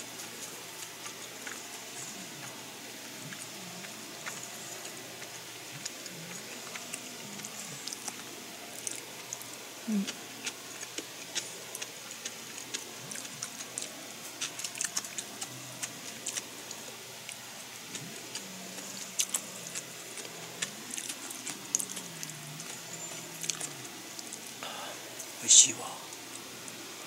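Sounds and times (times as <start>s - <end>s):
person chewing food: 0.0s - 25.4s.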